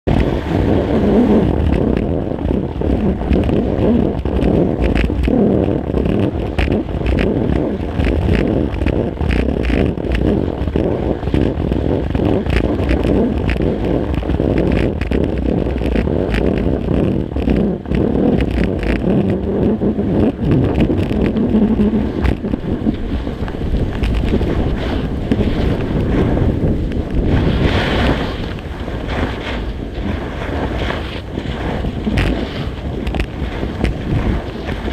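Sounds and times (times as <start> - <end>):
wind rushing against camera housing: 0.0 - 34.9
skis scraping on snow: 0.1 - 34.9.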